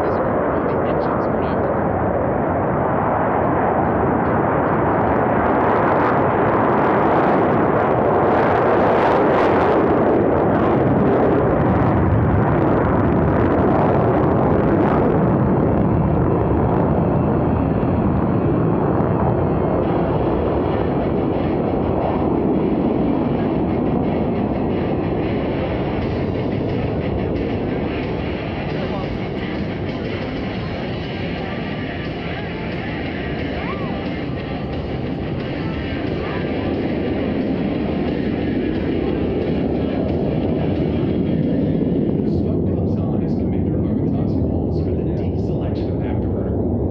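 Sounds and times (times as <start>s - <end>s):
jets taking off in afterburner: 0.0s - 46.9s.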